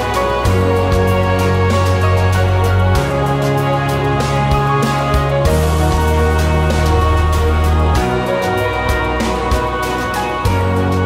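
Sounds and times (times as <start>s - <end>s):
sustained chords: 0.0s - 11.0s.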